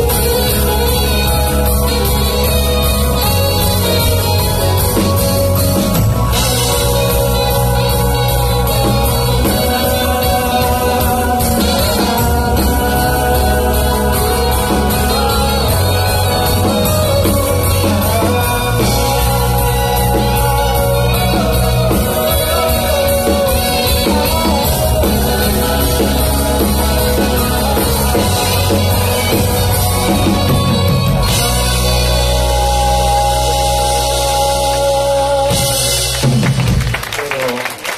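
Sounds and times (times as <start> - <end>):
lead vocal singing: 0.0 - 36.5
live pop band playing: 0.0 - 37.9.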